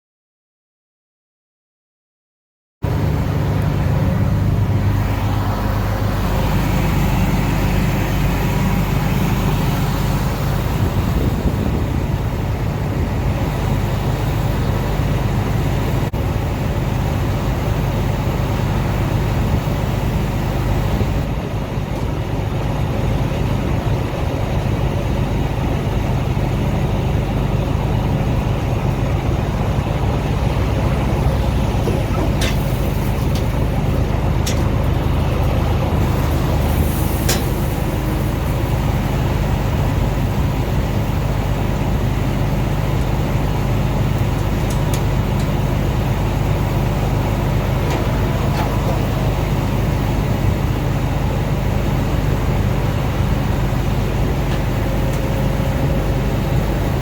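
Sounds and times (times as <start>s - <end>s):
combine harvester engine drone: 2.8s - 57.0s.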